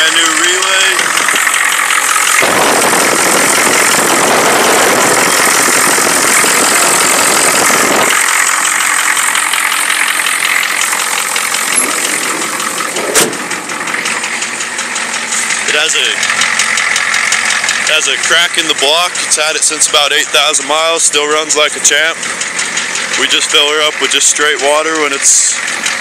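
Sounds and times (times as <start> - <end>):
diesel engine clatter: 0.0 - 26.0.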